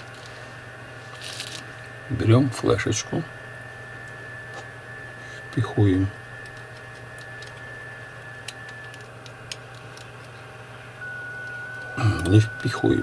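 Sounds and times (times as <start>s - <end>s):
high whine: 0.0s - 13.0s
low hum: 0.0s - 13.0s.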